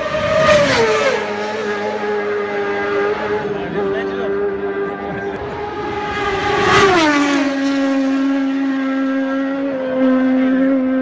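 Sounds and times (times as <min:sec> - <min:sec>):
motorcycle passing at high speed: 0:00.0 - 0:11.0.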